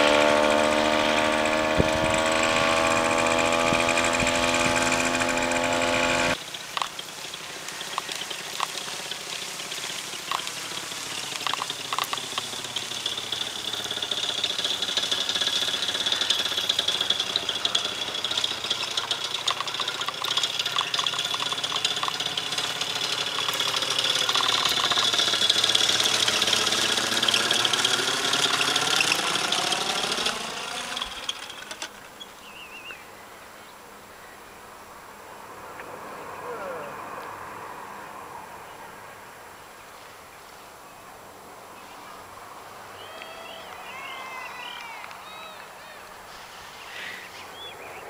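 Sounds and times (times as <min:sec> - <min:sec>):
paramotor engine droning overhead: 0:00.0 - 0:48.0.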